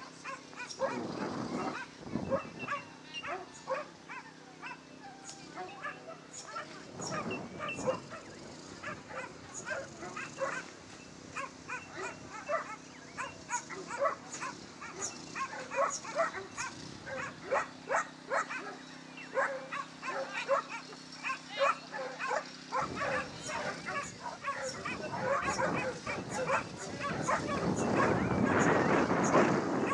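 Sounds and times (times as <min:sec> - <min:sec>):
dogs yelping and yipping: 0:00.1 - 0:29.9.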